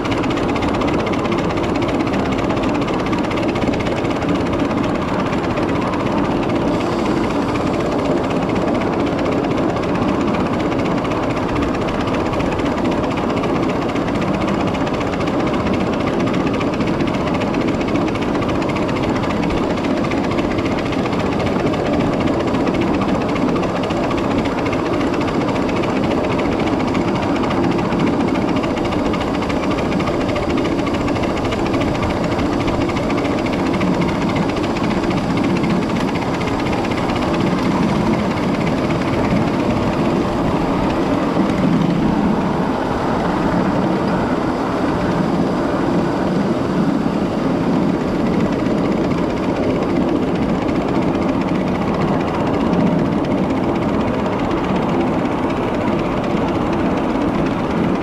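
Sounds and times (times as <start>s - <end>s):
miniature train rumbling on track: 0.0s - 58.0s.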